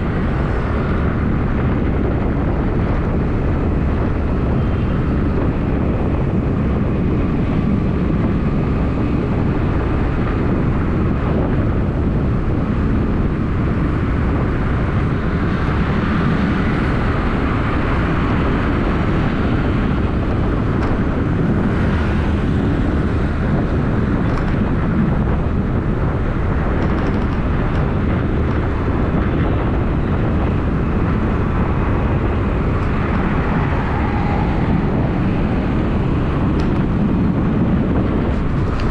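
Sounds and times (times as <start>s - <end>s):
car engine rumble: 0.0s - 38.9s
tyre road noise: 0.0s - 38.9s.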